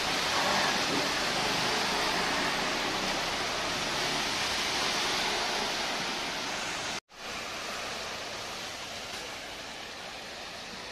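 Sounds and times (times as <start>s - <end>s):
water rushing and splashing: 0.0s - 10.9s.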